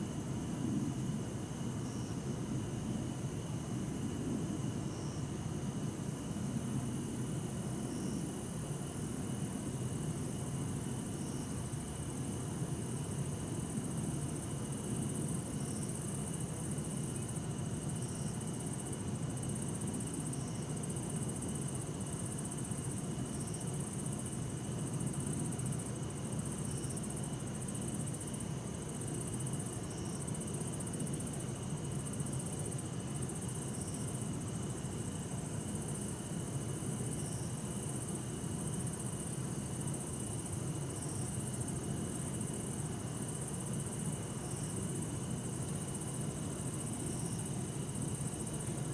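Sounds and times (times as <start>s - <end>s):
crickets singing: 0.0s - 48.9s.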